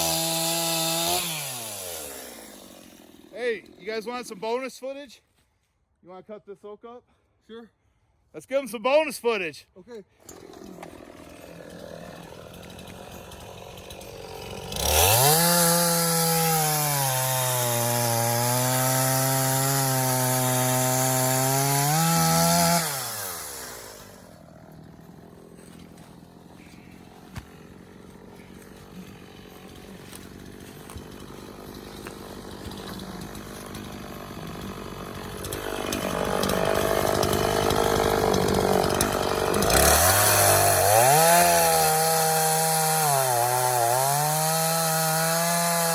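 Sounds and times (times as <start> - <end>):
chainsaw revving and cutting log: 0.0 - 4.7, 10.2 - 45.9.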